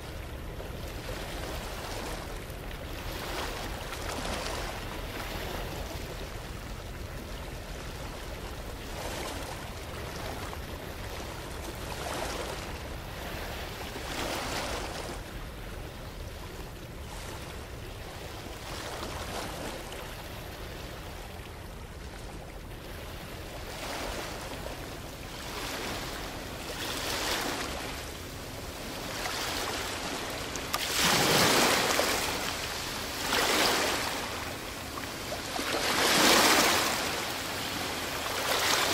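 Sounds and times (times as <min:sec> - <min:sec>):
surf-like noise: 0:00.0 - 0:38.9.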